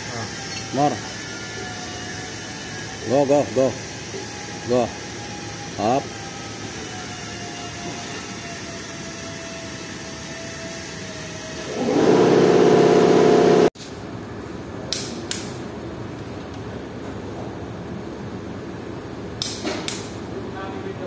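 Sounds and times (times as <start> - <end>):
loud mechanical hum: 0.0 - 21.0.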